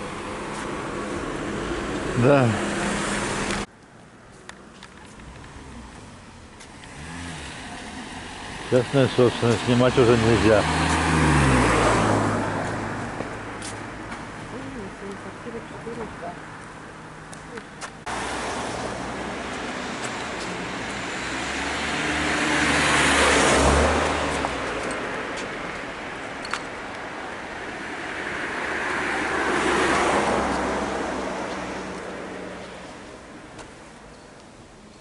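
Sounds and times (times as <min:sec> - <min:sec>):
cars passing by: 0:00.0 - 0:35.0.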